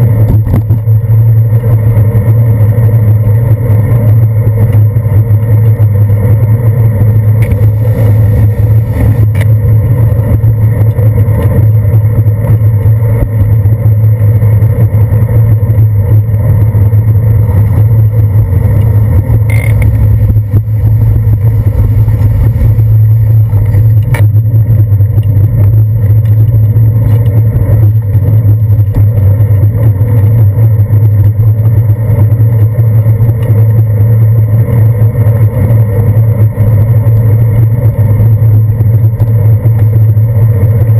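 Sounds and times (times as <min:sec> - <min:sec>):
bicycle riding on wet pavement: 0:01.3 - 0:15.7, 0:16.4 - 0:38.6.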